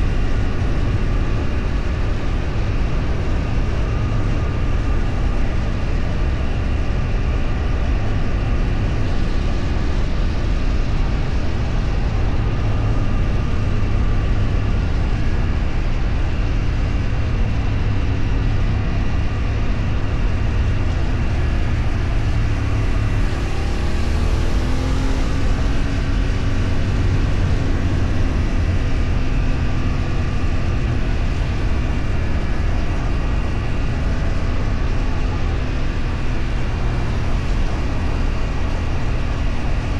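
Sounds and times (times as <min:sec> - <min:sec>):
road noise: 0:00.0 - 0:39.9
vehicle engine rumble: 0:00.0 - 0:39.9
wind noise: 0:00.0 - 0:39.9.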